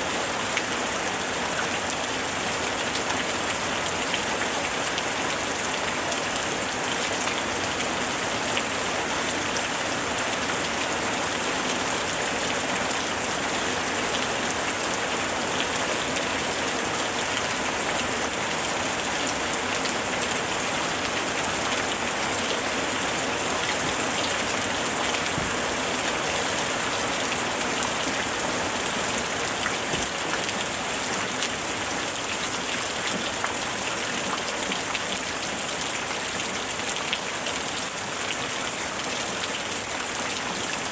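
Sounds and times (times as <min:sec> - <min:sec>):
heavy rain pattering: 0:00.1 - 0:40.9.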